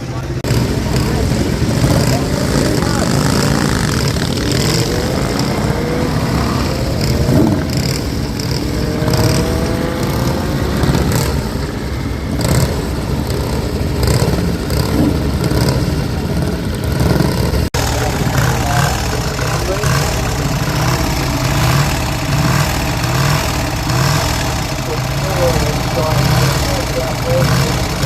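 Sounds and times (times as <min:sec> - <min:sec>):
motorcycle accelerating away: 0:00.0 - 0:28.0
motorcycle engines running: 0:00.0 - 0:28.0.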